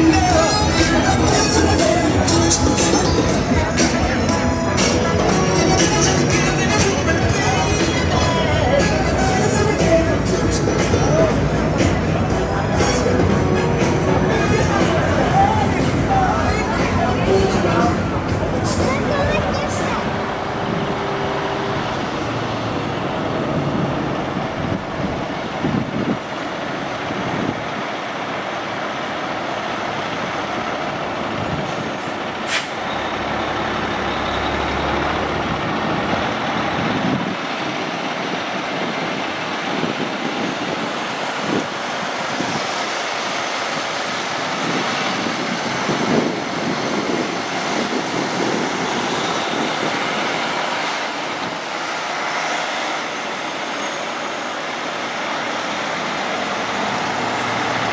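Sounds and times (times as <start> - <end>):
trucks driving slowly past: 0.0 - 57.9.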